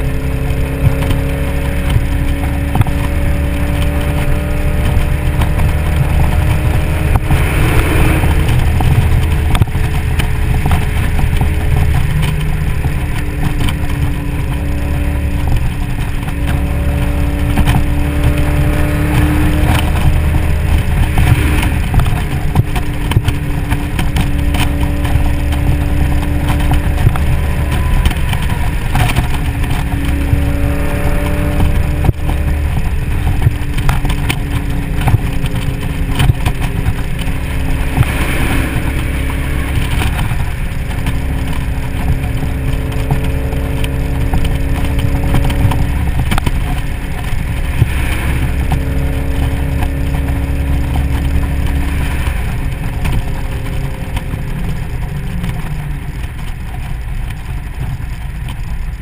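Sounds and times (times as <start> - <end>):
wind rush: 0.0 - 56.7
car engine droning: 0.0 - 59.0
road noise: 0.0 - 59.0.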